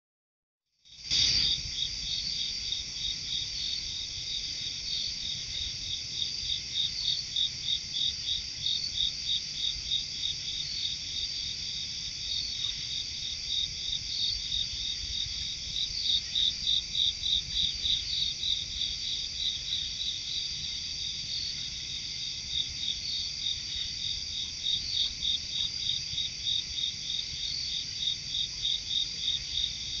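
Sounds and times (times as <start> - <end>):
insects trilling: 0.9 - 30.0
pulsing insect call: 0.9 - 30.0.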